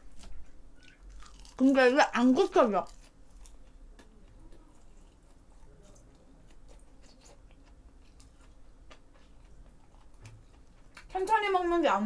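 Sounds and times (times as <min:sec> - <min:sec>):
person chewing food: 0:00.0 - 0:11.2.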